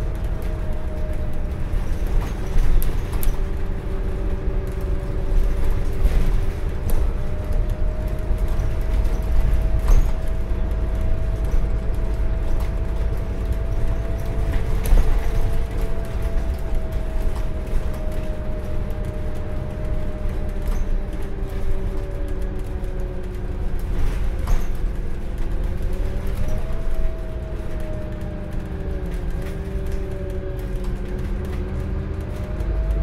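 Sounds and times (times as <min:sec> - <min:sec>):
bus diesel engine: 0:00.0 - 0:33.0
road rumble: 0:00.0 - 0:33.0.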